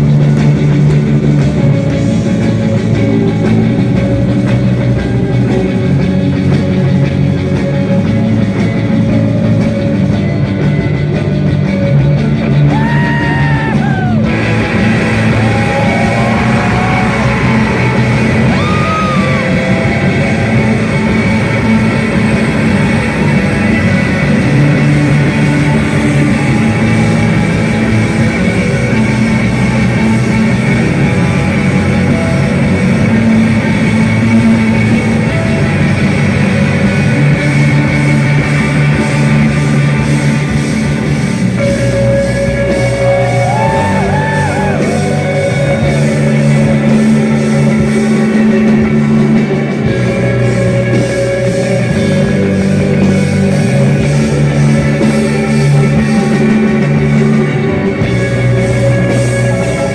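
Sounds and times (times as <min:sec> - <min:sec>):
bent electric guitar phrases: 0:00.0 - 0:59.9
live post-rock band: 0:00.0 - 0:59.9.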